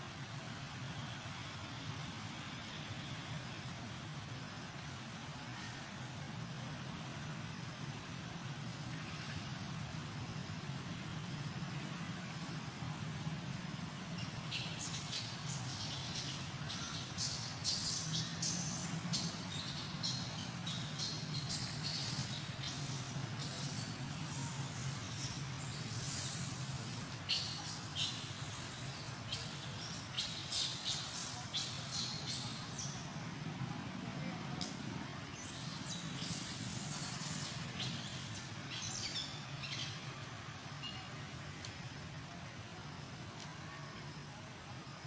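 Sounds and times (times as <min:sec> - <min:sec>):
insect chirps: 0:01.0 - 0:33.6, 0:34.6 - 0:41.4
insects hissing: 0:01.0 - 0:33.6, 0:35.3 - 0:40.2.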